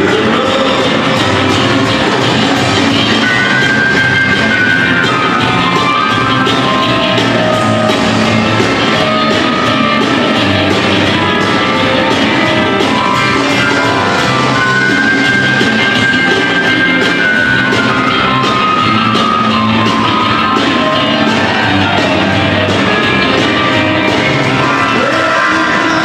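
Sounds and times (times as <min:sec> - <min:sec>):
rockabilly band playing: 0:00.0 - 0:26.0.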